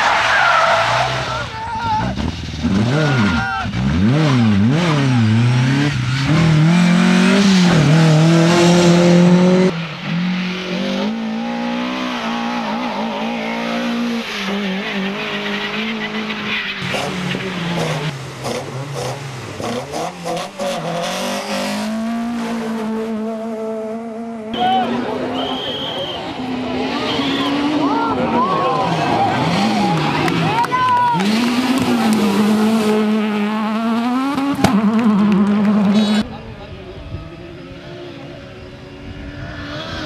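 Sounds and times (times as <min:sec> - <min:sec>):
racing car engine revving: 0:00.8 - 0:25.4, 0:26.2 - 0:36.4.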